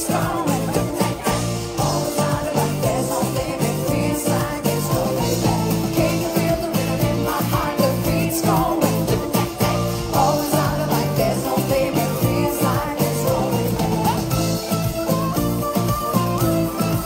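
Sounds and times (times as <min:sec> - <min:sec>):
woman singing into a microphone: 0:00.0 - 0:14.7
band playing pop music: 0:00.0 - 0:17.0.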